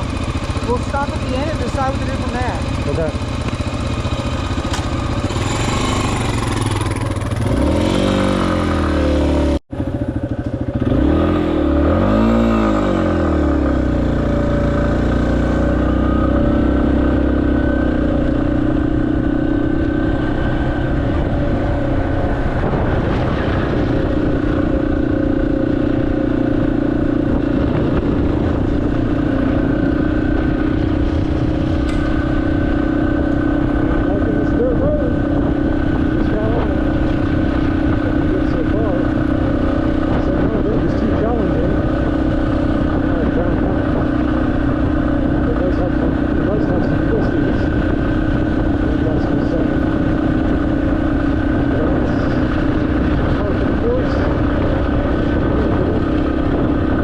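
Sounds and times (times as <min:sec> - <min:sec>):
motorcycle engine pulling away: 0:00.0 - 0:57.0.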